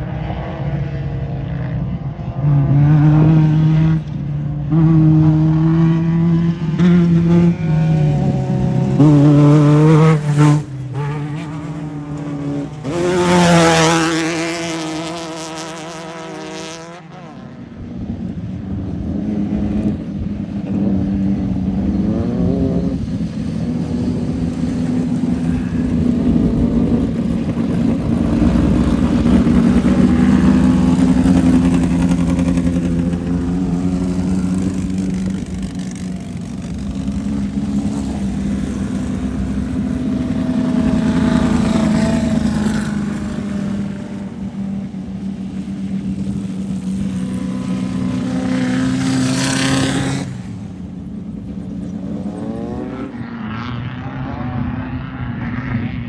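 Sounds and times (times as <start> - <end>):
race car engine revving: 2.4 - 17.6, 19.2 - 56.0.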